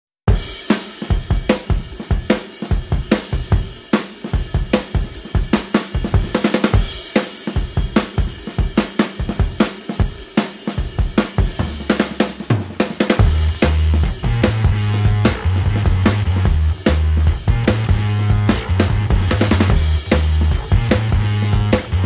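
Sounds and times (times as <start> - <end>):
music with fast drum beat: 0.3 - 22.0.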